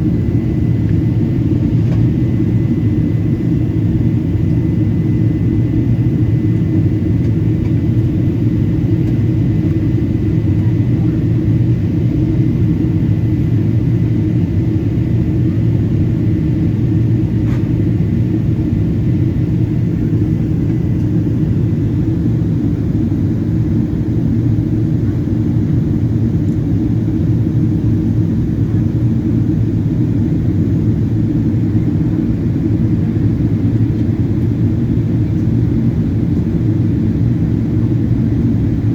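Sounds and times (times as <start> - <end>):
airplane cabin engine roar: 0.0 - 38.9.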